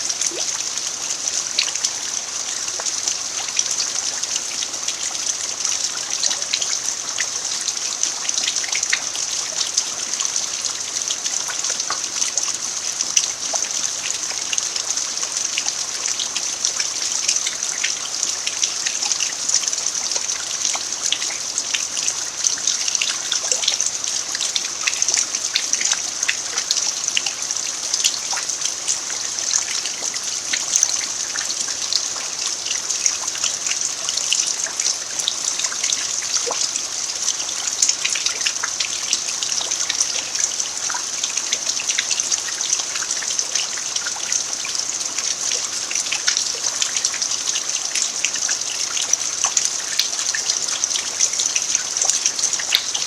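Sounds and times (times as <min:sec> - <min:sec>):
steady rain falling: 0:00.0 - 0:53.0
trickling runoff water: 0:00.0 - 0:53.0.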